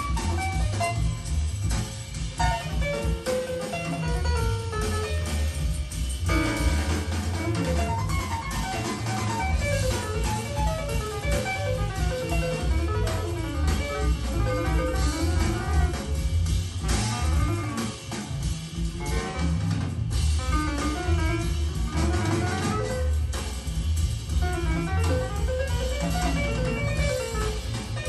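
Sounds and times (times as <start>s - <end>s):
instrumental music from speakers: 0.0s - 28.0s.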